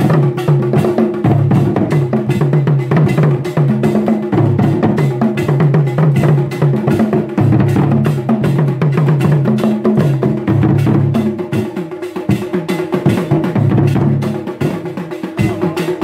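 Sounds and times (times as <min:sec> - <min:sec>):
drum ensemble playing: 0:00.0 - 0:16.0.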